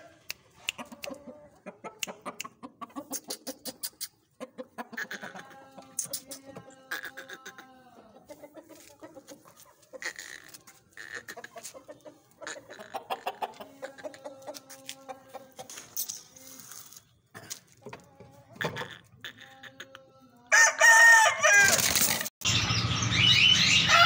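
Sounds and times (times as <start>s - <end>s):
roosters clucking: 0.0s - 24.0s.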